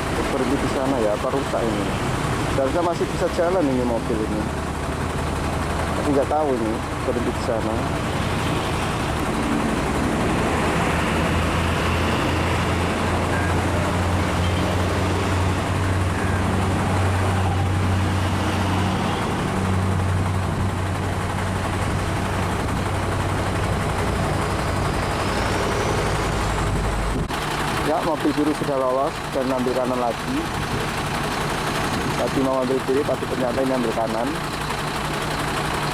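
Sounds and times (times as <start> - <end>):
traffic noise: 0.0 - 35.9
truck engines idling: 0.0 - 35.9.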